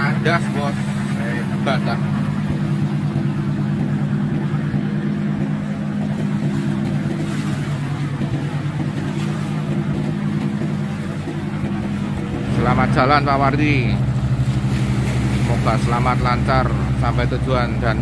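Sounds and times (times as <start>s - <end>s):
boat diesel engine droning: 0.0s - 18.0s.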